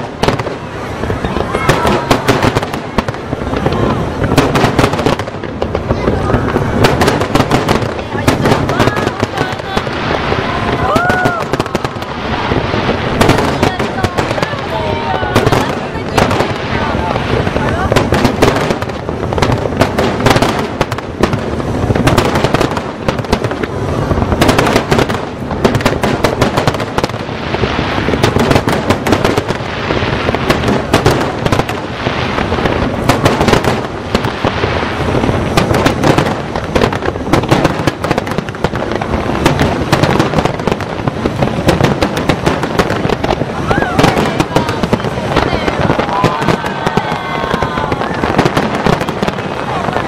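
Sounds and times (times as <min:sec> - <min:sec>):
fireworks bursting and crackling: 0:00.0 - 0:50.0
steady fireworks rumble: 0:00.0 - 0:50.0.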